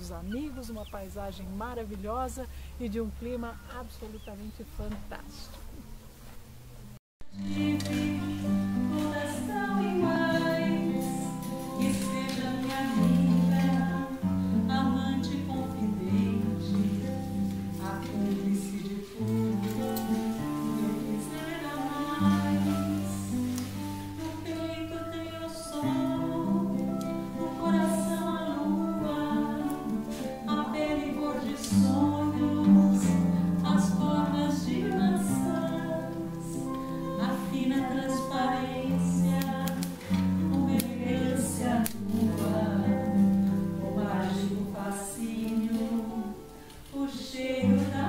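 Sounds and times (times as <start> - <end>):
acoustic guitar playing: 0.0 - 48.0
voices singing along: 7.4 - 48.0.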